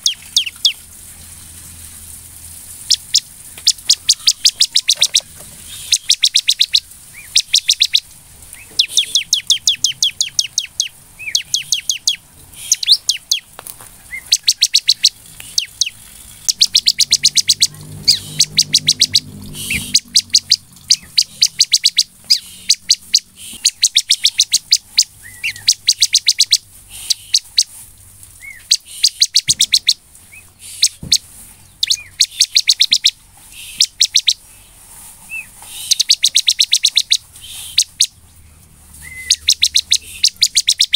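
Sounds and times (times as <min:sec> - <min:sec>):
bird song of sharp chirps: 0:00.0 - 0:00.9, 0:02.8 - 0:27.8, 0:28.4 - 0:38.4, 0:39.0 - 0:40.9.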